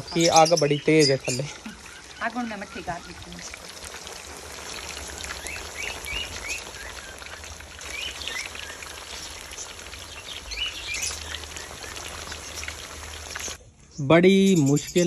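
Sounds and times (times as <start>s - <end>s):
chicken sizzling in hot oil: 0.0s - 13.6s
small birds chirping: 0.0s - 15.0s.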